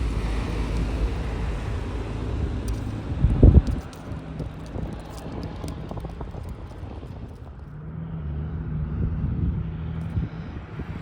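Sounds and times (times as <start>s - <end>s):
wind on microphone: 0.0s - 7.6s, 8.8s - 11.0s
road traffic: 0.0s - 11.0s
truck engine drone: 0.0s - 11.0s.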